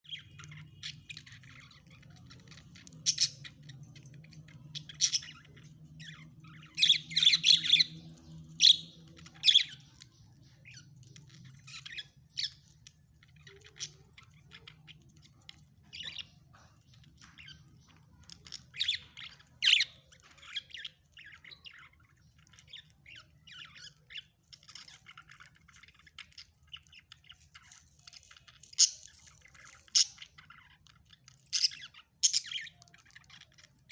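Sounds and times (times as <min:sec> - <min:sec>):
parrot squawking and chirping: 0:00.0 - 0:33.9.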